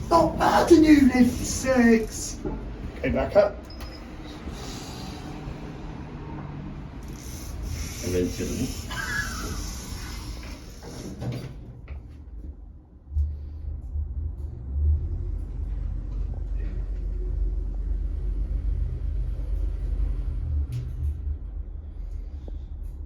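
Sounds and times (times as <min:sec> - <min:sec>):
lift car rumble: 0:00.0 - 0:23.0.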